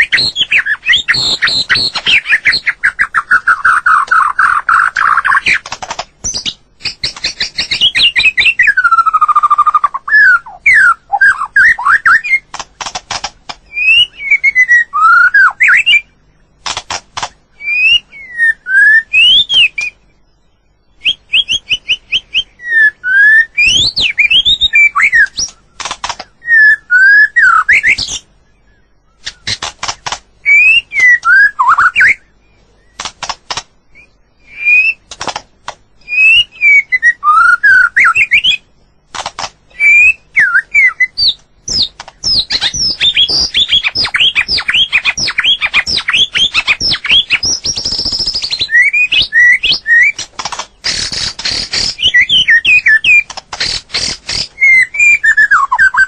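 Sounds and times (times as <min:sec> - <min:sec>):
bird singing whistles and trills: 0:00.0 - 0:12.5, 0:13.6 - 0:16.6, 0:17.5 - 0:29.6, 0:30.4 - 0:33.1, 0:33.8 - 0:35.1, 0:36.0 - 0:39.0, 0:39.7 - 0:56.0.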